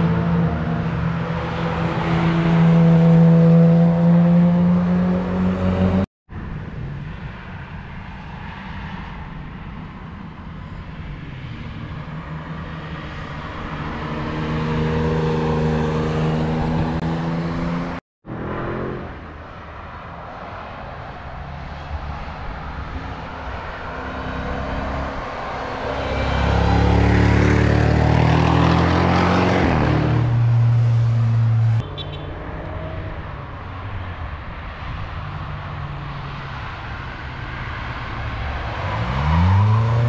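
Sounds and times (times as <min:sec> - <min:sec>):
cars driving past: 0:00.0 - 0:06.1, 0:11.1 - 0:40.0.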